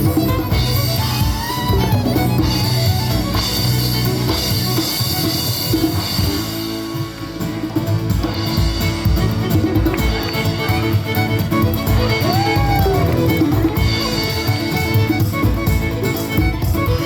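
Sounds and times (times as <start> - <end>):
bass drum: 0.0 - 17.0
guitar: 0.0 - 17.0
live band playing: 0.0 - 17.0.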